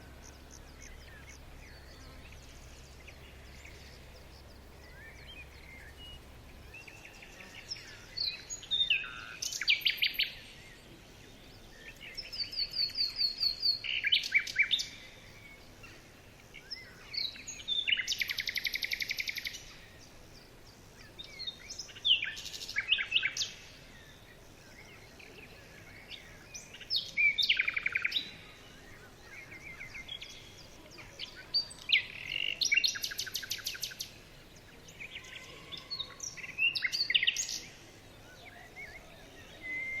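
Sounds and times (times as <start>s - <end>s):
faint background hiss: 0.0s - 40.0s
songbird chirping and trilling: 0.0s - 40.0s.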